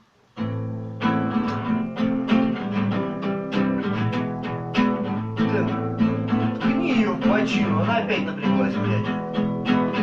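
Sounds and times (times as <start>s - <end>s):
acoustic guitar strumming: 0.4s - 10.0s.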